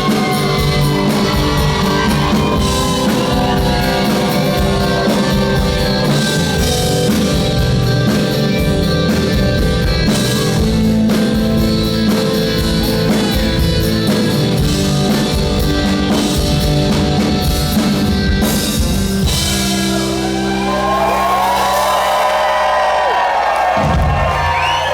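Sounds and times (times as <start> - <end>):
electric guitars: 0.0 - 22.8
drum kit: 0.0 - 24.9
rock band playing live: 0.0 - 24.9.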